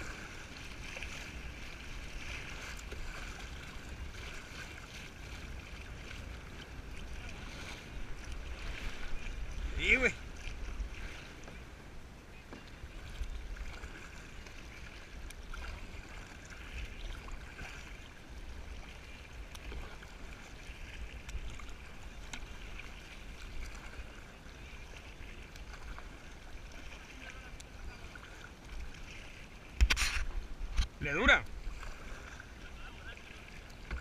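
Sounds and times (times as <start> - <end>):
paddle blades dipping in water: 0.0 - 34.0
water splashing against kayak: 0.0 - 34.0.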